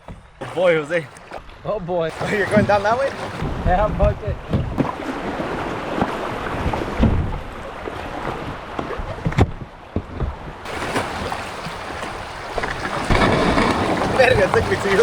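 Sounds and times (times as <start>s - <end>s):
river water splashing and rushing: 0.0s - 15.0s
wind buffeting microphone: 2.1s - 5.8s, 6.4s - 15.0s.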